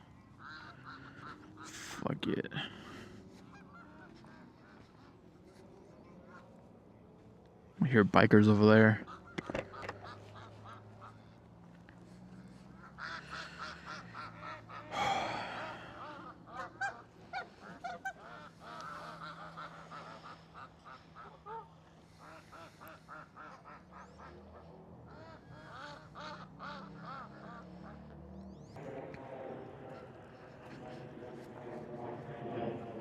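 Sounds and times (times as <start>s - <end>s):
geese honking: 0.0s - 6.8s, 7.8s - 28.8s.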